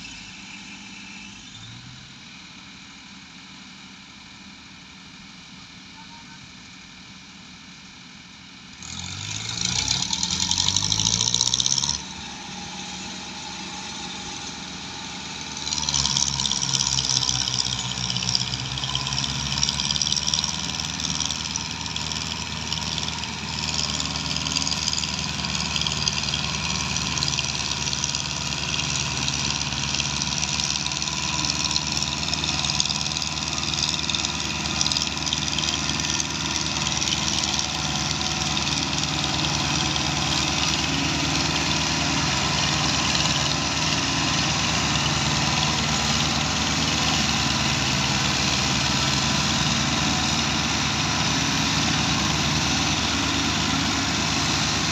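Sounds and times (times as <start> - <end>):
diesel tractor engines revving: 8.6 - 54.9.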